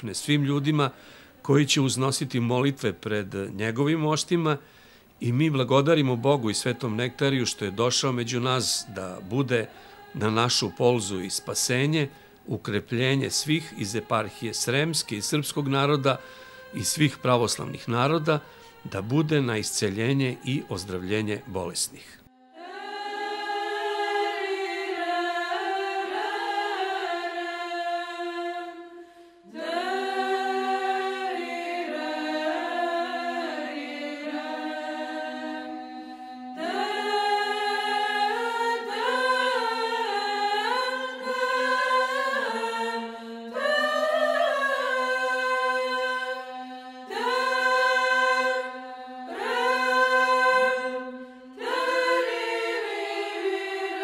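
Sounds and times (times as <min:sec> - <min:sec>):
unaccompanied choir chanting: 0:00.0 - 0:54.0.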